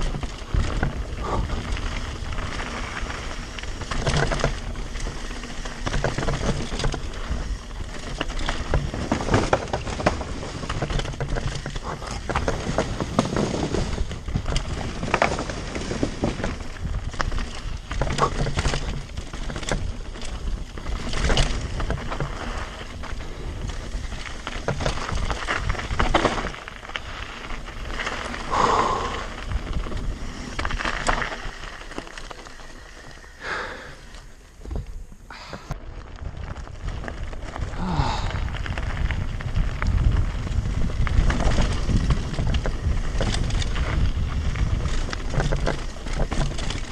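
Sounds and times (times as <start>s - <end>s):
bike rattling and knocking: 0.0s - 46.9s
bike tyres crunching over stones: 0.0s - 46.9s.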